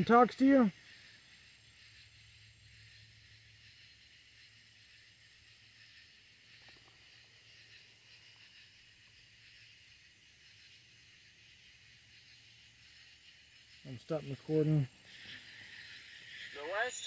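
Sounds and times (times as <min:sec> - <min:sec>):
faint outdoor night hiss: 0:00.0 - 0:17.0.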